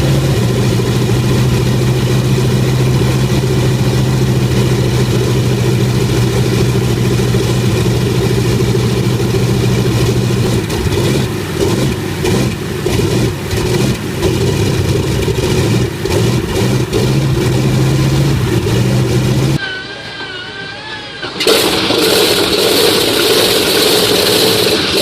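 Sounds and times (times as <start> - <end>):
engine running unevenly: 0.0 - 25.0.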